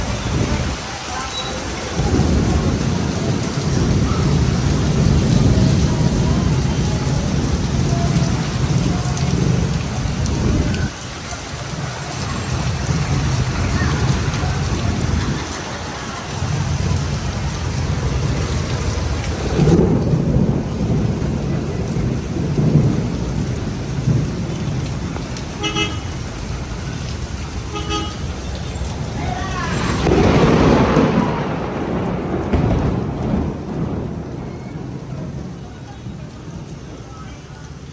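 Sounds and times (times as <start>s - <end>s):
rain pouring: 0.0s - 37.9s
thunder rumbling: 0.0s - 37.9s.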